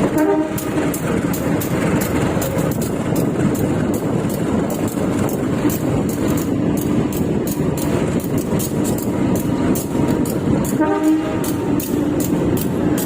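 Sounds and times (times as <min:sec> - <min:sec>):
train wheels rumbling and clicking: 0:00.0 - 0:13.0.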